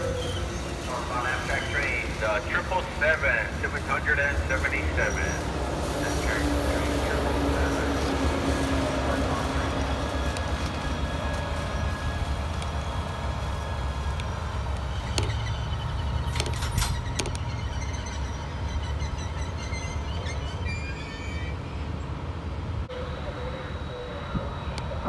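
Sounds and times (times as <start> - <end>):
train wheels clicking on rails: 0.0 - 21.0
locomotive engine rumbling: 0.0 - 25.0.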